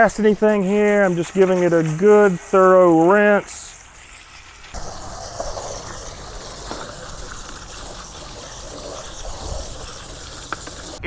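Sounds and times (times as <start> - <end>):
hose spraying water: 0.0 - 11.0.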